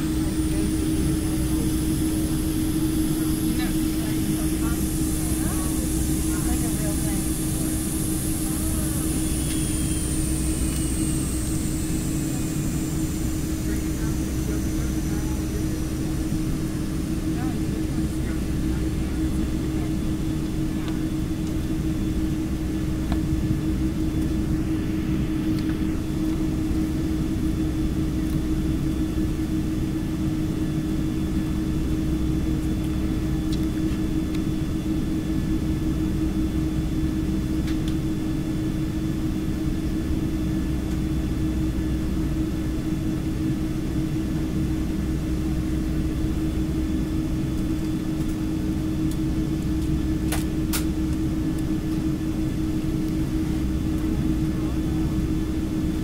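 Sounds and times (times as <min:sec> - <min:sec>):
airliner cabin engine rumble: 0:00.0 - 0:56.0
constant low hum: 0:00.0 - 0:56.0.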